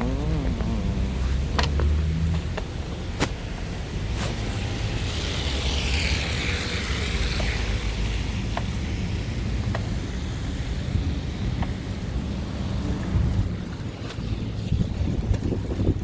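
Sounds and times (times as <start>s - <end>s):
bicycle tyres on snowy road: 0.0s - 16.0s
wind rumbling on microphone: 0.0s - 16.0s.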